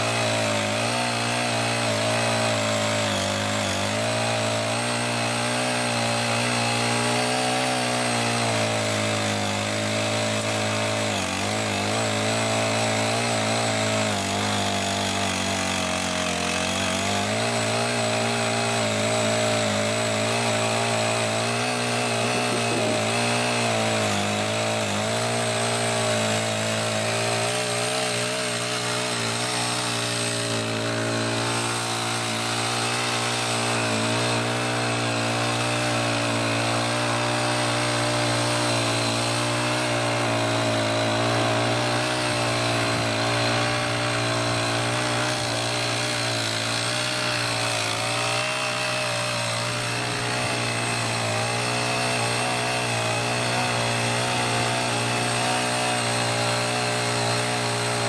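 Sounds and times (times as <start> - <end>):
garden tiller engine running: 0.0 - 58.0.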